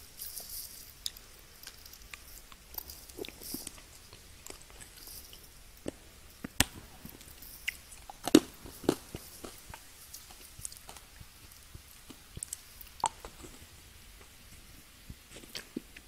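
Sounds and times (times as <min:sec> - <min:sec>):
candy crunching: 0:00.2 - 0:13.7
person chewing candy: 0:00.2 - 0:13.8.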